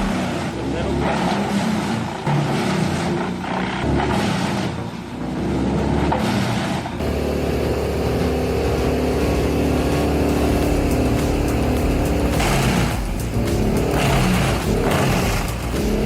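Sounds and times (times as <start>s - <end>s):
heavy machinery running: 0.0s - 16.0s
steady engine hum: 0.0s - 16.0s.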